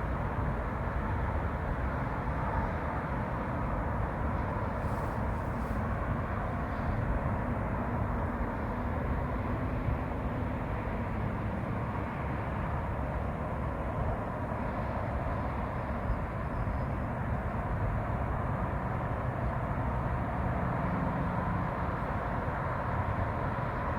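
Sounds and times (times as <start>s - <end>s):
deep outdoor background noise: 0.0s - 23.9s.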